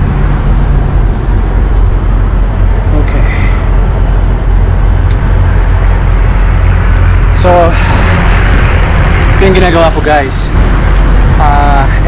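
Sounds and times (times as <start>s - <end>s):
diesel truck engines idling: 0.0s - 12.0s.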